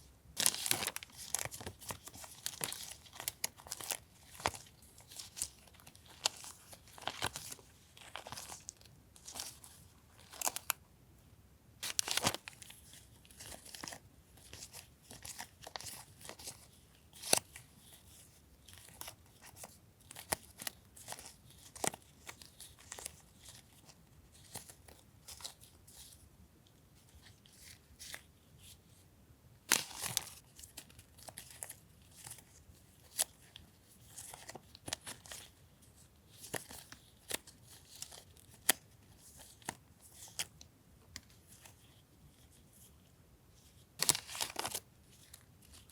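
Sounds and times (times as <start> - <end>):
paper rustling and crinkling: 0.0 - 10.8, 11.8 - 26.2, 29.7 - 40.5, 43.6 - 45.9.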